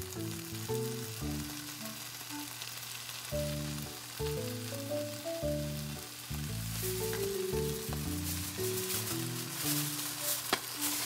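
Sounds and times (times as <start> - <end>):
background music: 0.0 - 2.6, 3.3 - 11.0
meat sizzling in a frying pan: 0.0 - 11.0.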